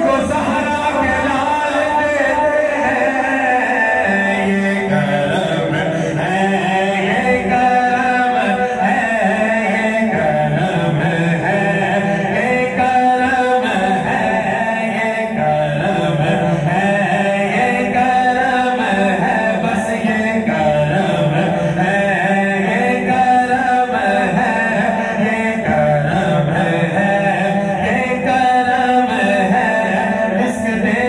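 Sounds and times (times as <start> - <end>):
men singing devotional song: 0.0 - 31.0.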